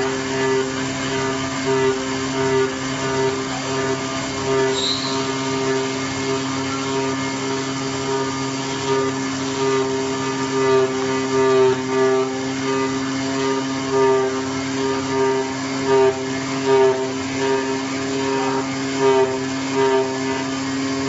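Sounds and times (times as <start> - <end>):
cutting plotter humming and whining: 0.0 - 21.0.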